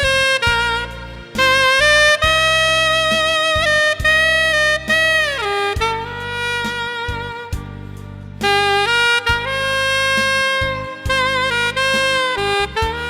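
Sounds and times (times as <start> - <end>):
backing track with steady beat: 0.0 - 13.0
saxophone ballad melody: 0.0 - 13.0.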